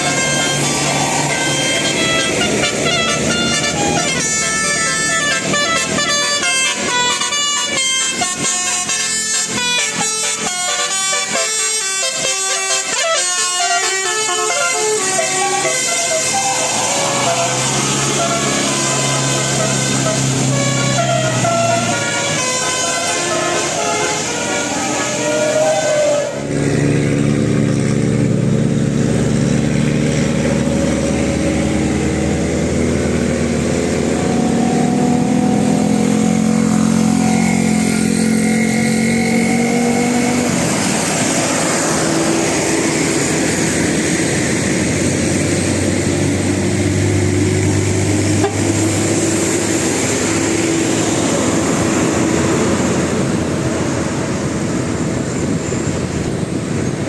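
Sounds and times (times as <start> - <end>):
large vehicle engines passing: 0.0 - 57.0.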